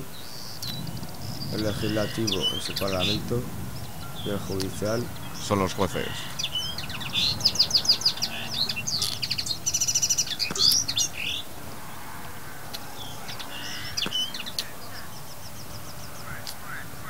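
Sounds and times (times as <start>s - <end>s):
small birds chirping and singing: 0.0s - 17.0s.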